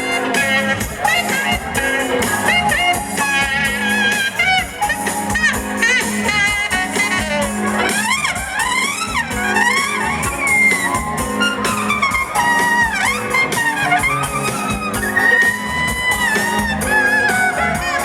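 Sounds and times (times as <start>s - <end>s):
bass: 0.0s - 18.0s
drums: 0.0s - 18.0s
electric guitar: 0.0s - 18.0s
horn section: 0.0s - 18.0s.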